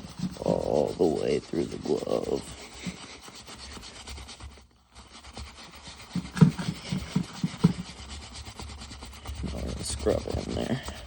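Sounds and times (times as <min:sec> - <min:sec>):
scratchy rubbing on leather: 0:00.0 - 0:11.0.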